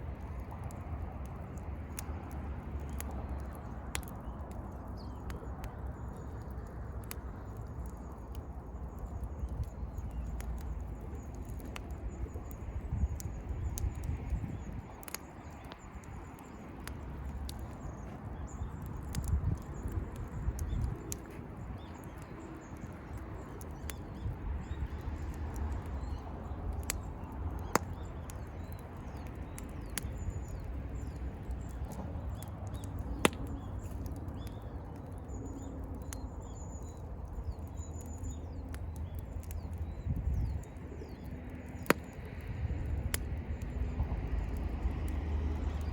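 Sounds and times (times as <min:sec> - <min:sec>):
campfire crackling and popping: 0:00.0 - 0:45.9
faint birds chirping: 0:00.0 - 0:45.9
low fire rumble: 0:00.0 - 0:45.9.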